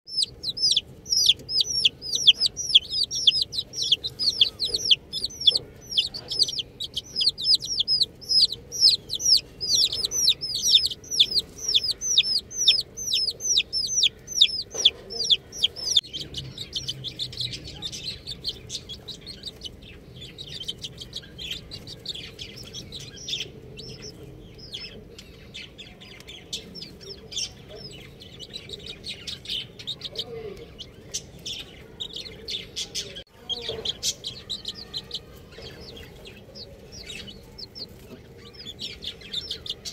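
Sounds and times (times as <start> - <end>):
chicks peeping: 0.1 - 39.9.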